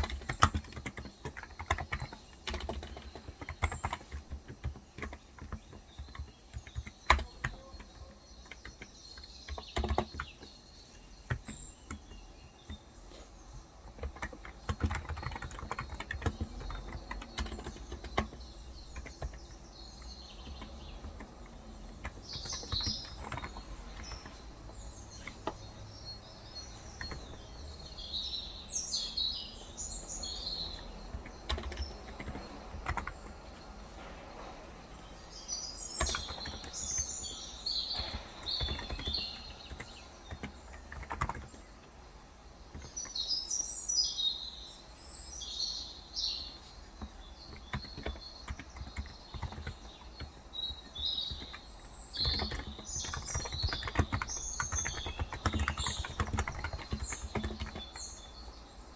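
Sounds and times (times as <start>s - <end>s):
keyboard typing: 0.0s - 43.4s, 46.6s - 58.6s
birds chirping: 0.0s - 58.9s.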